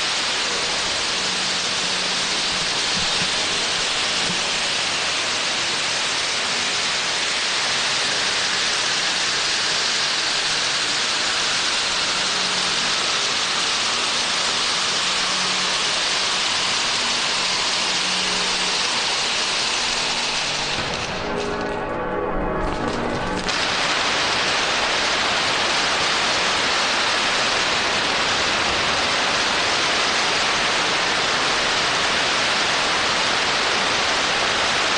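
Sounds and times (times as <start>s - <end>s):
fountain fireworks hissing: 0.0s - 21.7s, 22.8s - 34.9s.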